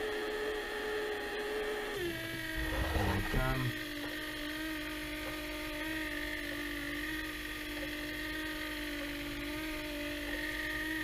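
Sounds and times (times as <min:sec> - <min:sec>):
small electric motor whining: 0:00.0 - 0:11.0.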